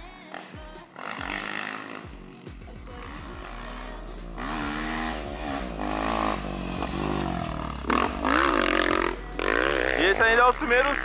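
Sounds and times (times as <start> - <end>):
motocross bike engine revving: 0.9 - 11.0.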